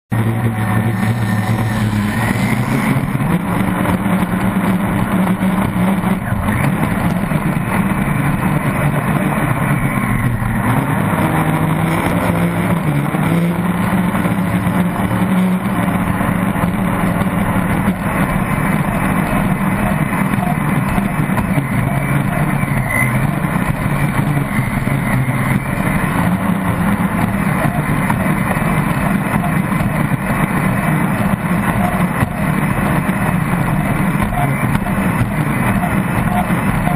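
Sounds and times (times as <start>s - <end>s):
boat engine running hard: 0.1s - 36.9s.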